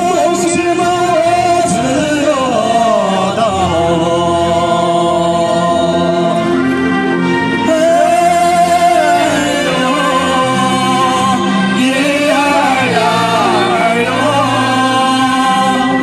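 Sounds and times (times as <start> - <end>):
backing track through loudspeaker: 0.0 - 16.0
person singing: 0.0 - 16.0.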